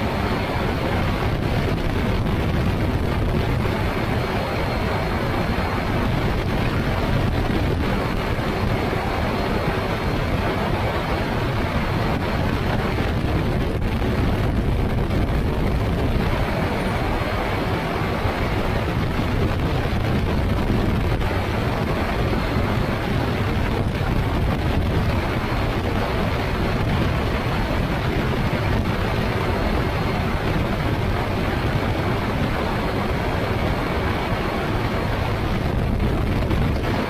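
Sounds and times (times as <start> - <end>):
engine and propeller running: 0.0 - 37.0
heavy wind noise on microphone: 0.0 - 37.0.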